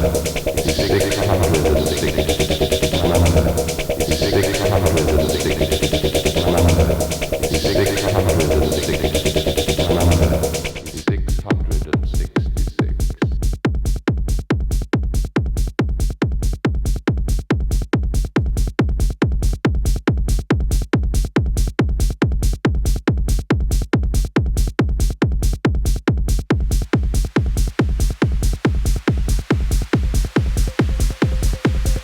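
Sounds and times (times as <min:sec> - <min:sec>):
techno music with kick beat: 0:00.0 - 0:32.0.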